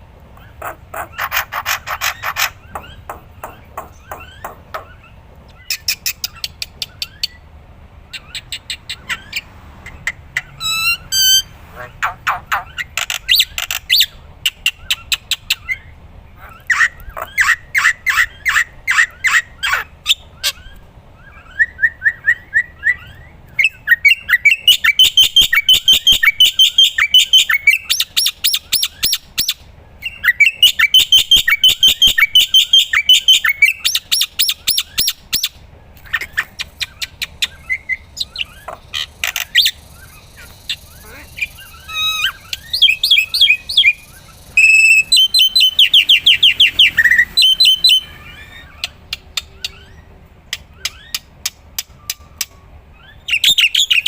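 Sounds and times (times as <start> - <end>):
myna chirping: 0.3 - 54.0.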